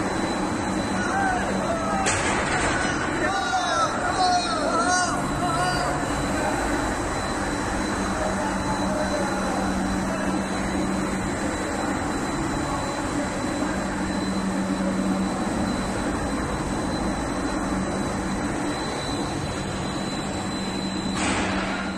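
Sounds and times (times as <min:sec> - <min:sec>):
paper machine rollers and motors din: 0:00.0 - 0:21.9
thin high whine: 0:00.0 - 0:21.9.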